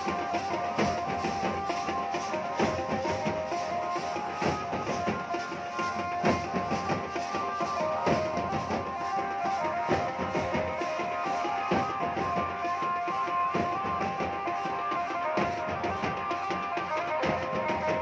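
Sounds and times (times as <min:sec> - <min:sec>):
heavy drum strokes: 0:00.0 - 0:18.0
wedding band dance music: 0:00.0 - 0:18.0.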